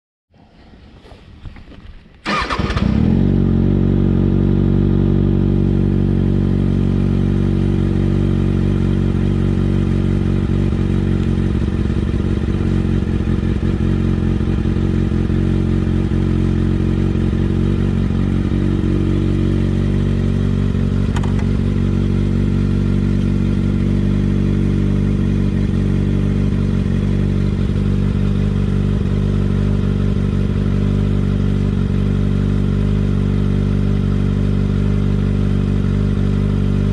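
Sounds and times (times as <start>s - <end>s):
motorcycle engine idling: 2.2s - 36.9s.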